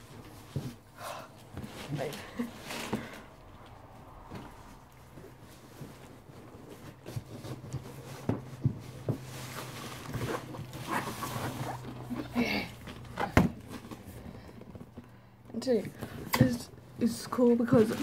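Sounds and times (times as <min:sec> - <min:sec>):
cardboard rustling and scraping: 0:00.0 - 0:18.0.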